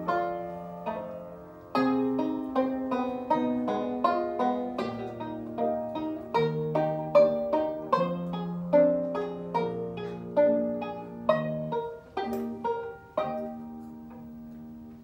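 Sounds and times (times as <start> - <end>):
banjo picking melody: 0.0 - 15.0
piano notes: 0.0 - 15.0.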